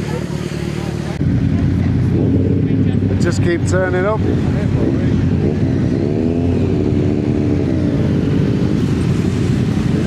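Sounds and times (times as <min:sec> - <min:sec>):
constant low rumble: 0:00.0 - 0:10.0
motorcycle engines running: 0:00.0 - 0:10.0.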